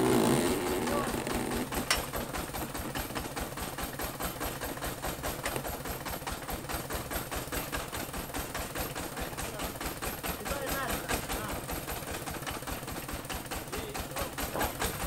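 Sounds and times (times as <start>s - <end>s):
engine idling with rapid knocking: 0.0s - 15.0s.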